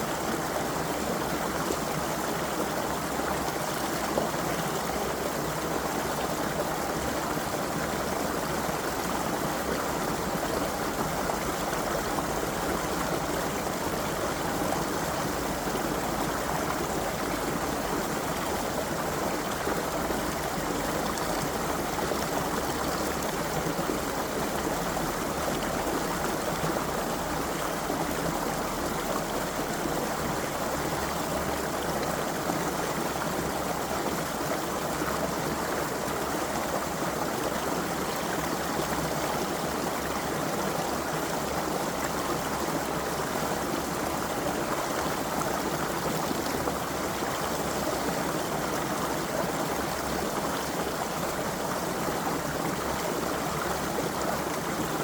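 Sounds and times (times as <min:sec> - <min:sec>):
creek water running over stones: 0:00.0 - 0:55.0.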